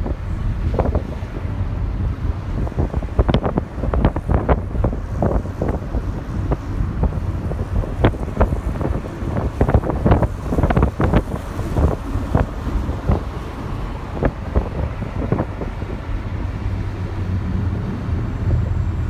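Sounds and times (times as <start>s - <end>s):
car rumbling on road: 0.0s - 19.0s
wind buffeting microphone: 0.0s - 19.0s.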